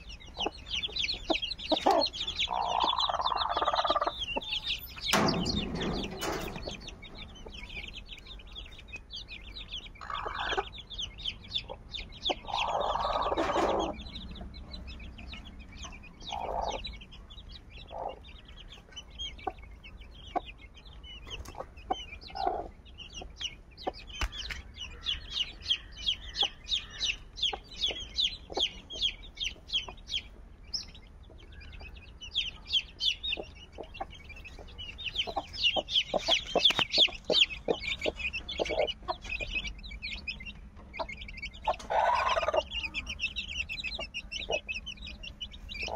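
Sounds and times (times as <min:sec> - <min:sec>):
chicks peeping: 0:00.0 - 0:45.9
hen clucking: 0:00.0 - 0:45.9.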